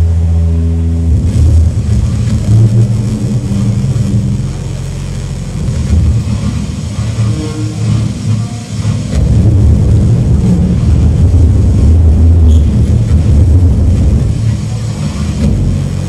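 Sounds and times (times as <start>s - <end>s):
electronic music over pa: 0.0s - 16.0s.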